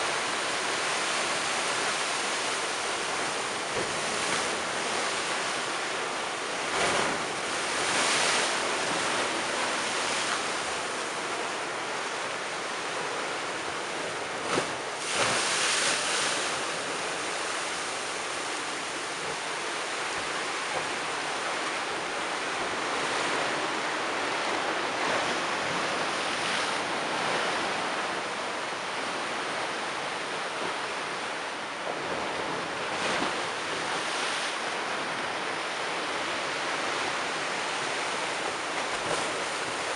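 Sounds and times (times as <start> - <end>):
surf washing on sea wall: 0.0 - 39.9
waves crashing: 0.0 - 39.9.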